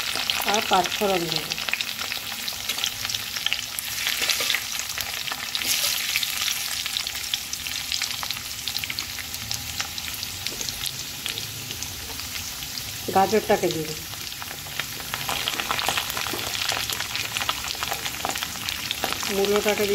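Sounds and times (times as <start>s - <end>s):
potatoes sizzling in hot oil: 0.0s - 19.9s.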